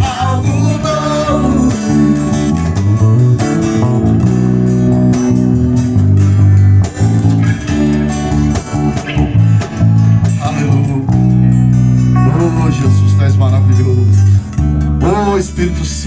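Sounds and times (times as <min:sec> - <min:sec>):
guitar strumming: 0:00.0 - 0:16.0
worship band playing: 0:00.0 - 0:16.0.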